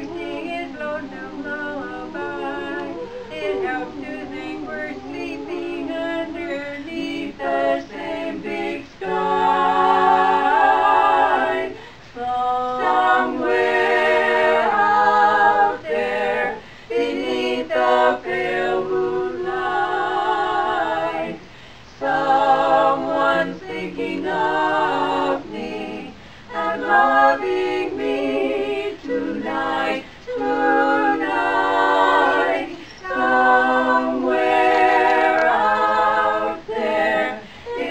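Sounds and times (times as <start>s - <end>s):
women singing a cappella: 0.0s - 37.9s.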